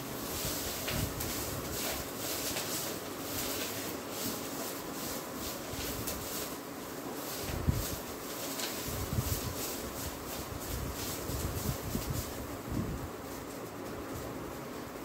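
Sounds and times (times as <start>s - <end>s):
cooking hiss: 0.0s - 15.0s.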